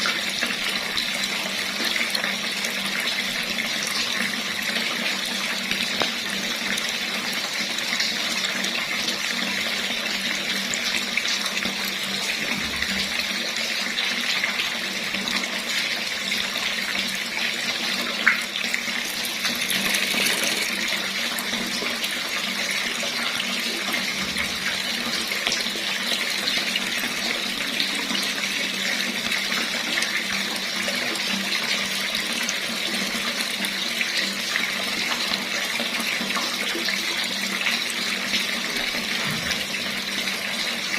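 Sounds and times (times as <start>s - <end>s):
water running from tap: 0.0s - 40.9s.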